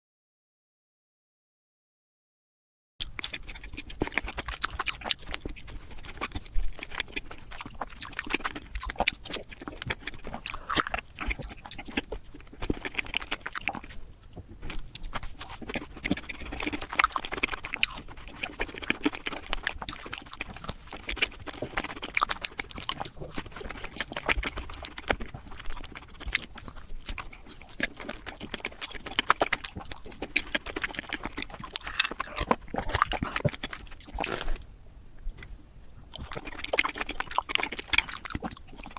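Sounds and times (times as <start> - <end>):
chewing and mouth smacks: 3.0 - 38.9
sharp mouth clicks: 3.0 - 38.9.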